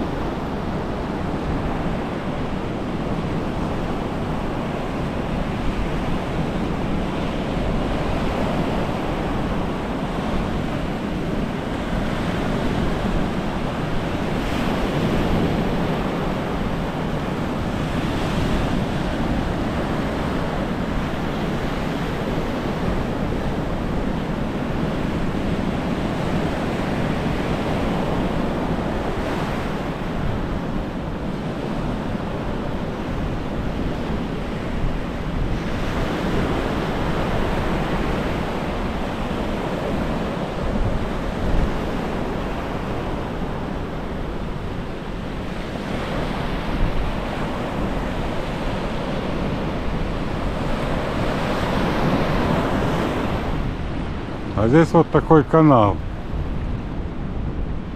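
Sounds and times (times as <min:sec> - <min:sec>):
sea waves breaking on shore: 0:00.0 - 0:57.9.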